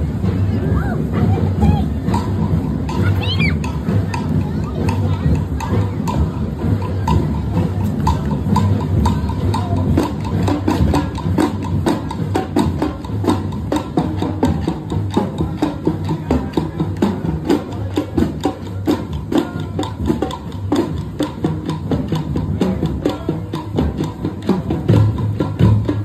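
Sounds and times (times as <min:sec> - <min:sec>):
drum band playing: 0:00.0 - 0:26.0.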